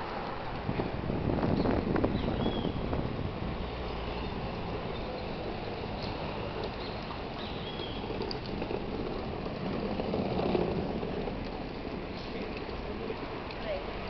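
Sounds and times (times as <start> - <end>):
wind rushing over microphone: 0.0 - 13.5.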